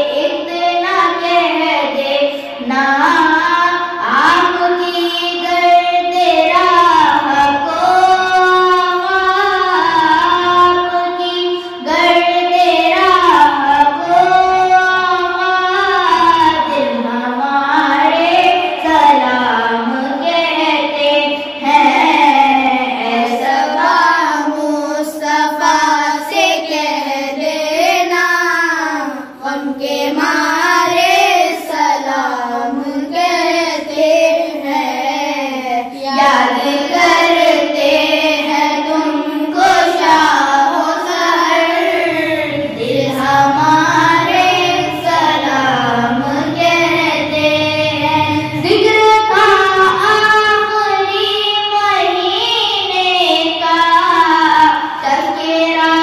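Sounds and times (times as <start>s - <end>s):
boy singing into a microphone: 0.0s - 56.0s.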